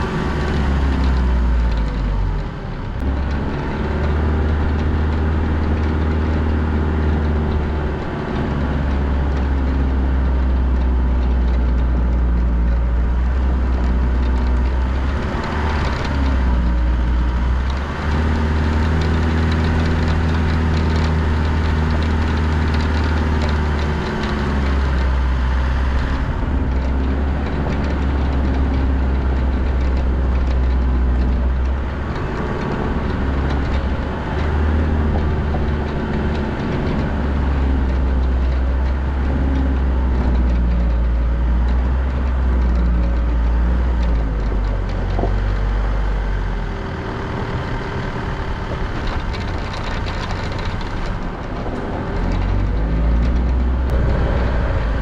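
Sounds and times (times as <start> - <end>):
engine low drone: 0.0 - 55.0.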